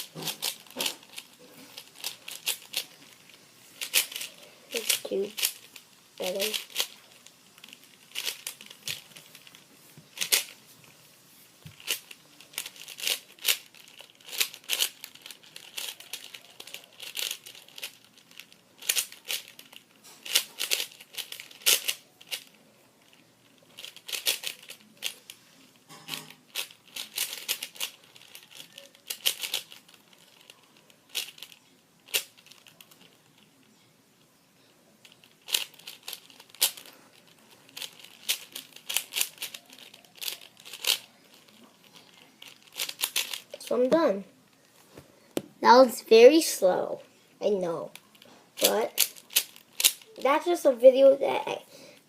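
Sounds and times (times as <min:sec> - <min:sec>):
plastic puzzle cube clacking: 0:00.0 - 0:10.6, 0:11.7 - 0:25.3, 0:26.1 - 0:33.5, 0:35.0 - 0:44.0, 0:47.9 - 0:50.2.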